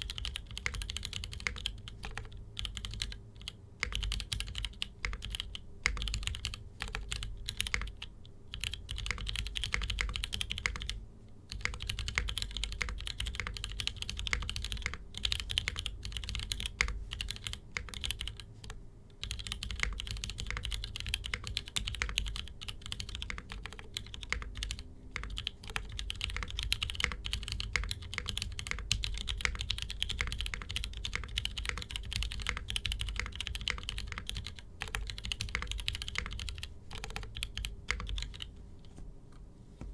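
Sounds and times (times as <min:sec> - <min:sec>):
mechanical keyboard typing: 0:00.0 - 0:38.5.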